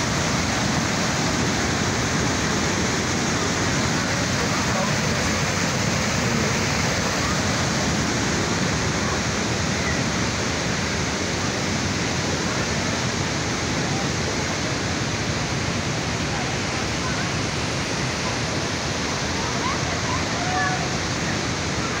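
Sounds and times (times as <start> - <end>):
water rushing over a weir: 0.0 - 22.0.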